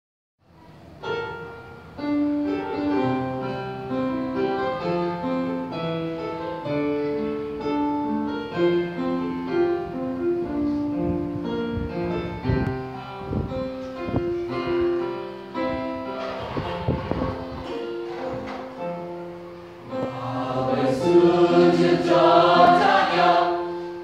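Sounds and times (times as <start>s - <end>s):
slow keyboard melody: 0.6s - 24.0s.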